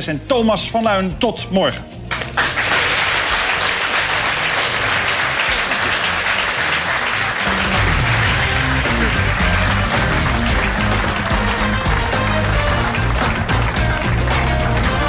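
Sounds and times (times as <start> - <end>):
closing music: 2.0 - 15.0
audience applauding: 2.1 - 15.0.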